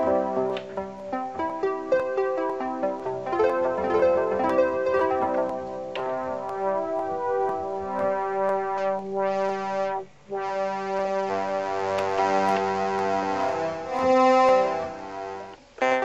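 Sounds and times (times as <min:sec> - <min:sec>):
synthesizer sustained chords: 0:00.0 - 0:15.6.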